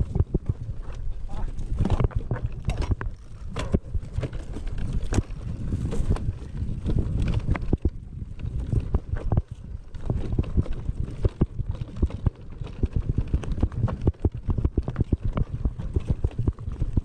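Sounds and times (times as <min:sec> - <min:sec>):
mountain bike rattling and knocking: 0:00.0 - 0:17.0.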